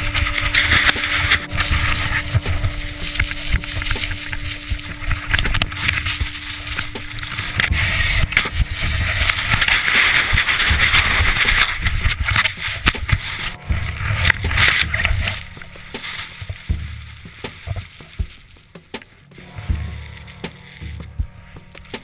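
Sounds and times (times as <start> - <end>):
loud rushing noise: 0.0 - 22.0
wind buffeting microphone: 0.0 - 22.0.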